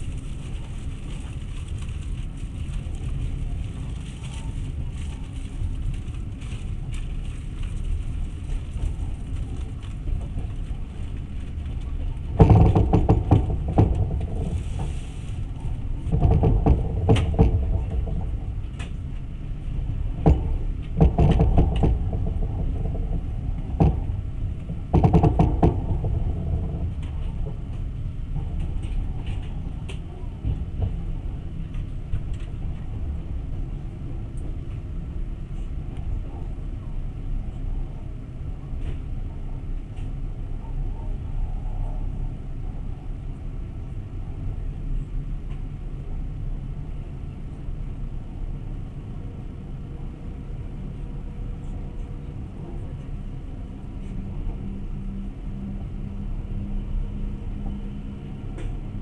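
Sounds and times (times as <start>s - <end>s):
train rumble from on board: 0.0s - 59.0s.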